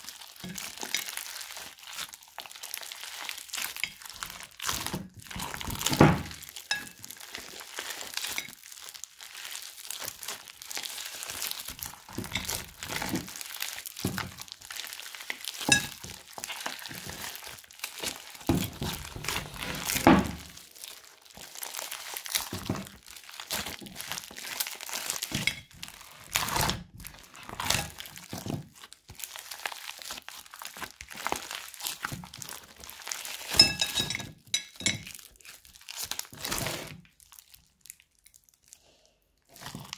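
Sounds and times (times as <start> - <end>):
slime crackling: 0.0 - 33.6.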